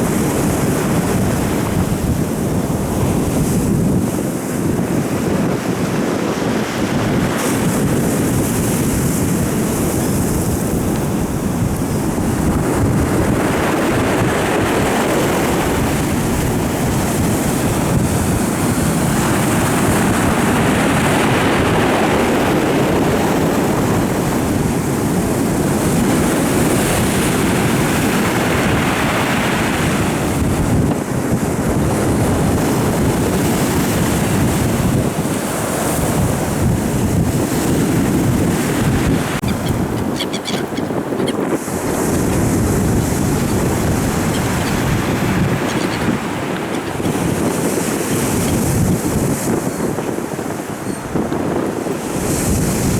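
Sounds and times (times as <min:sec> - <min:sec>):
waves breaking: 0:00.0 - 0:52.9
wind buffeting microphone: 0:00.0 - 0:52.9.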